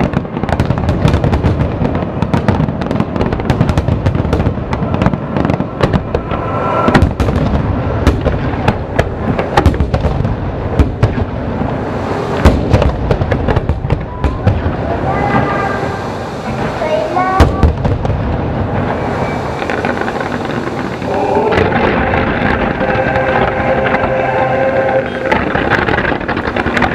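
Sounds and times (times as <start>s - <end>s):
fireworks bursting and crackling: 0.0s - 26.9s.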